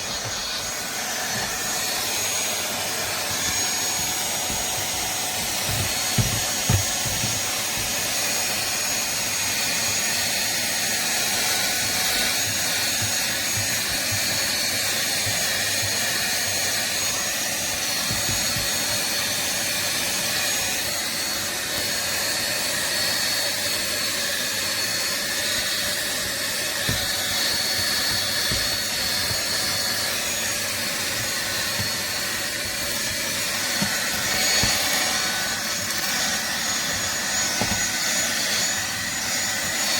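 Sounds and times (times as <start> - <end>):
stick vacuum cleaner running: 0.0 - 39.9.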